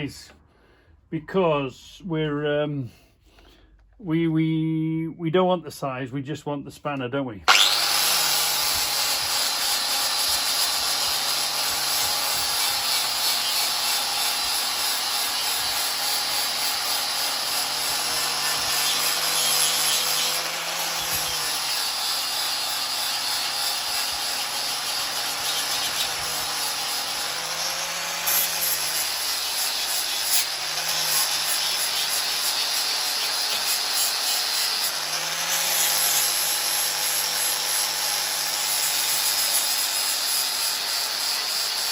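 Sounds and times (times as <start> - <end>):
grinder motor hum: 7.5 - 41.9.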